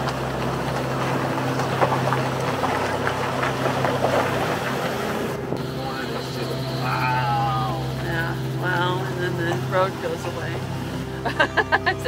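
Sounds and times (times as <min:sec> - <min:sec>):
tyres crunching on gravel: 0:00.0 - 0:11.7
van engine droning: 0:00.0 - 0:12.0.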